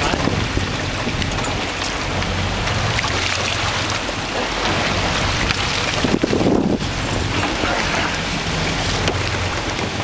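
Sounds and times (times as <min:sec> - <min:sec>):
water splashing and churning: 0:00.0 - 0:10.0.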